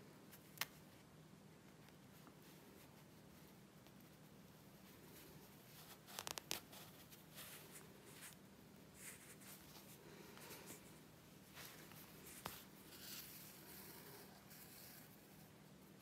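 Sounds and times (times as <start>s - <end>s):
faint steady hum: 0.0s - 16.0s
rasping rustle of thread: 0.3s - 16.0s.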